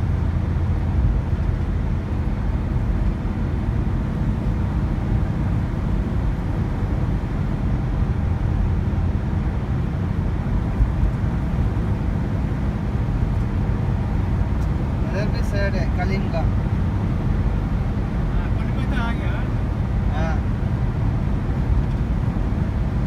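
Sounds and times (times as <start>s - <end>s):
engine and tyre rumble in car cabin: 0.0s - 23.0s.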